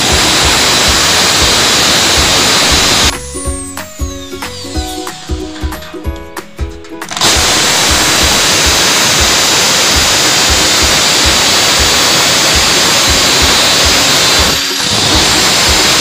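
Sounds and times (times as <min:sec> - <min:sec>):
electric drill boring through metal: 0:00.0 - 0:03.1, 0:04.0 - 0:05.3, 0:07.1 - 0:16.0.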